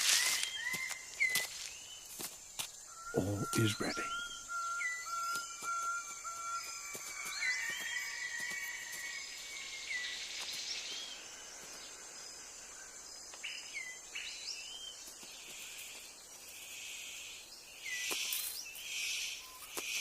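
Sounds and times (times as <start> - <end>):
bird chirps: 0.0 - 20.0
insects droning: 0.0 - 20.0.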